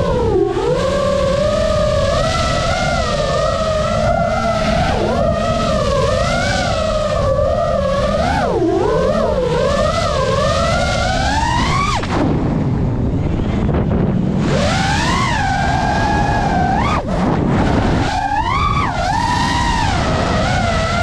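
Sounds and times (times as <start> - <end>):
drone motors whining: 0.0 - 21.0
rush of air: 0.0 - 21.0.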